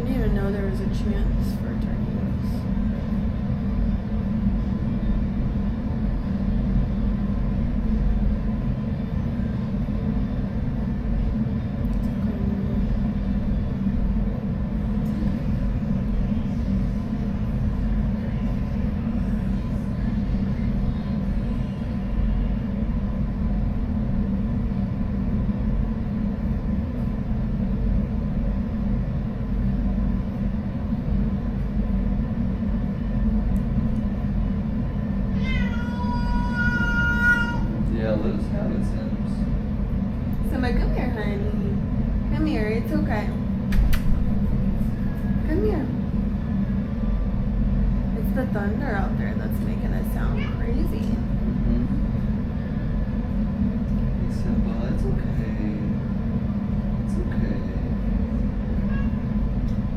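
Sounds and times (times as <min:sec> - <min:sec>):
faint constant hum: 0:00.0 - 0:59.9
low rumble: 0:00.0 - 0:59.9.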